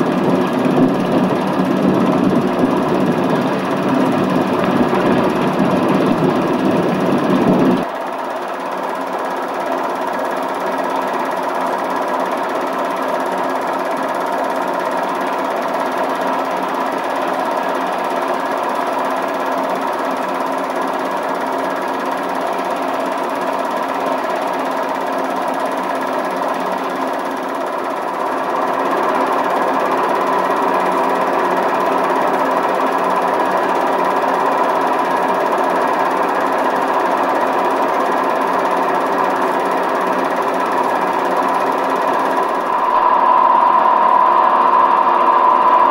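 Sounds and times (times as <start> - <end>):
machine clattering and humming: 0.0 - 45.9.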